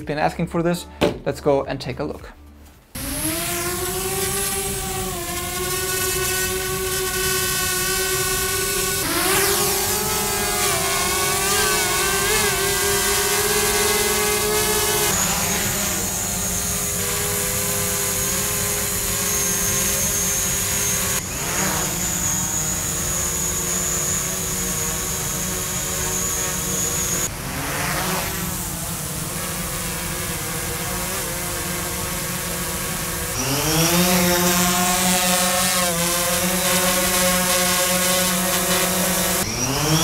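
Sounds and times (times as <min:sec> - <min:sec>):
drone propeller buzz and whine: 0:03.0 - 0:40.0.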